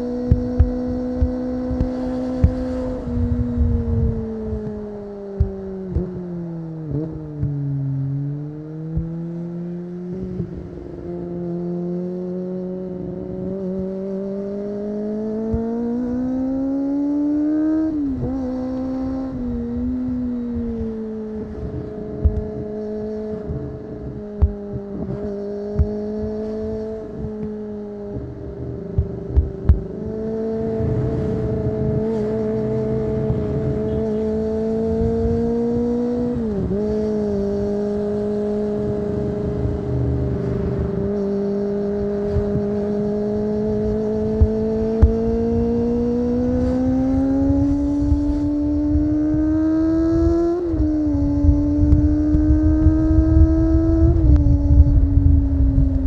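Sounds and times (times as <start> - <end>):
low wind rumble: 0.0 - 56.0
motorcycle engine at high revs: 0.0 - 56.0.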